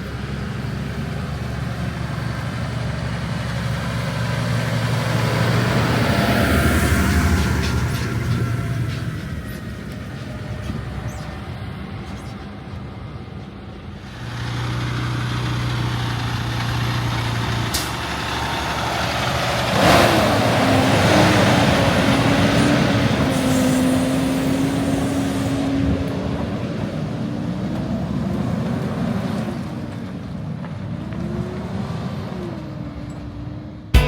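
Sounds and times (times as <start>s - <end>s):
heavy diesel engines running: 0.0s - 34.0s.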